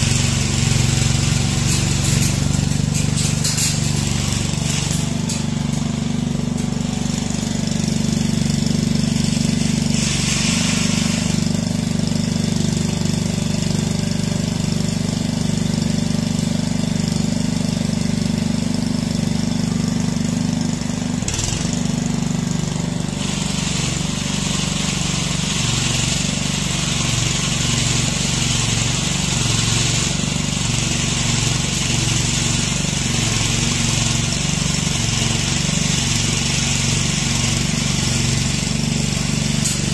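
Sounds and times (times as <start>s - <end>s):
wire brush scraping paving: 0.0s - 12.9s, 20.5s - 39.9s
petrol engine running: 0.0s - 39.9s.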